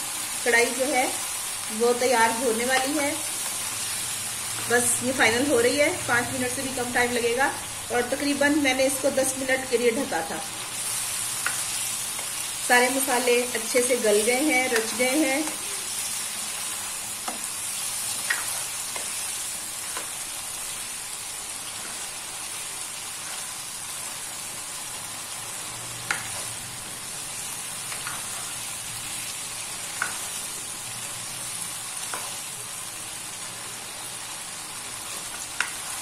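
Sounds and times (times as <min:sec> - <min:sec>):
food sizzling in a wok: 0:00.0 - 0:36.0.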